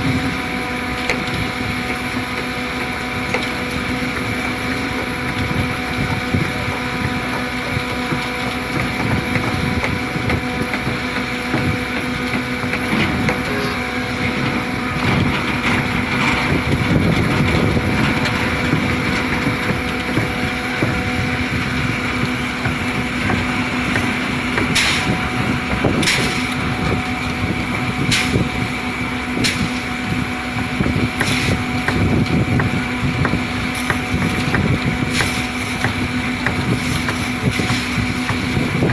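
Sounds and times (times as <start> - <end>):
concrete pump humming and rumbling: 0.0 - 38.9.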